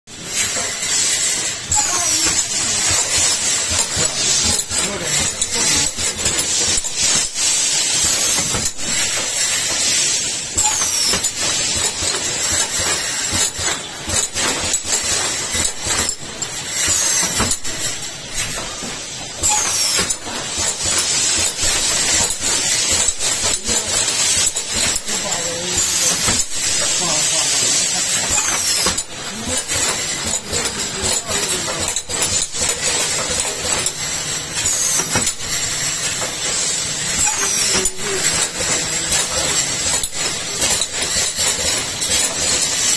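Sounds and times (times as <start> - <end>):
machine hissing: 0.1 - 42.9.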